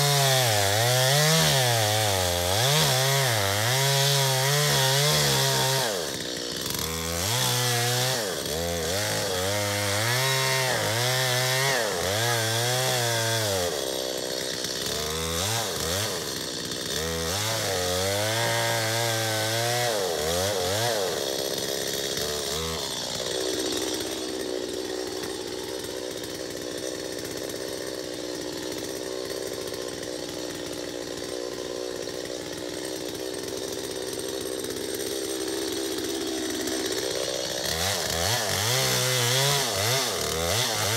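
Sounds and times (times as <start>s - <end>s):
chainsaw cutting into tree trunk: 0.0s - 40.9s.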